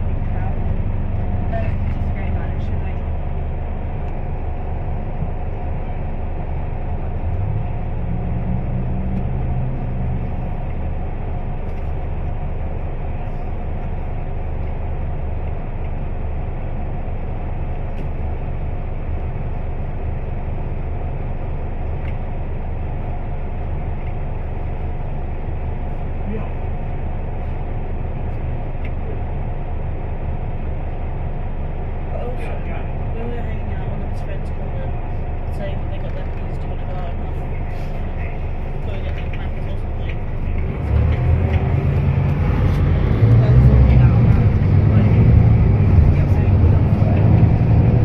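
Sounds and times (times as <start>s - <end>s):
bus diesel engine drone: 0.0s - 48.0s.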